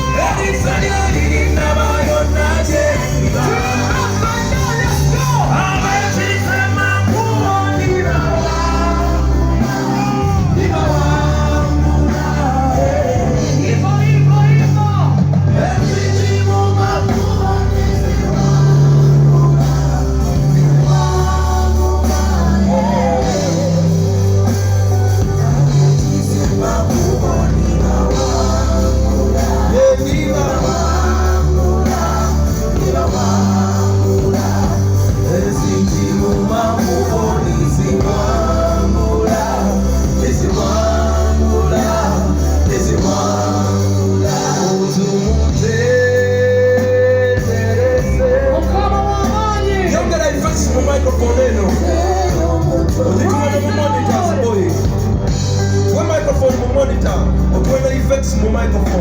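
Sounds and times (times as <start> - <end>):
band playing through a pa: 0.0 - 59.0.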